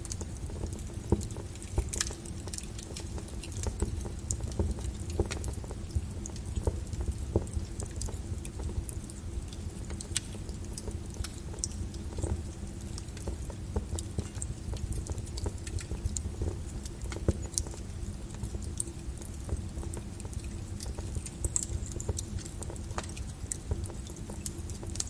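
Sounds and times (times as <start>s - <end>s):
rain on a window: 0.0s - 25.0s
wood fire crackling: 0.0s - 25.0s.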